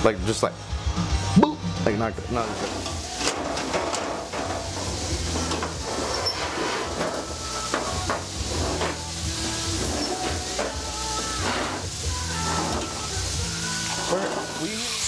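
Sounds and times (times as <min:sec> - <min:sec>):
meat sizzling in a skillet: 0:01.8 - 0:15.0
hot fat crackling and popping: 0:02.3 - 0:15.0.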